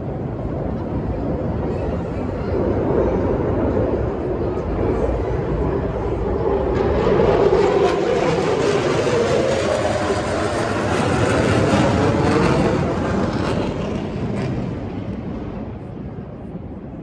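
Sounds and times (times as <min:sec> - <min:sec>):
military aircraft engine: 0:00.0 - 0:17.0.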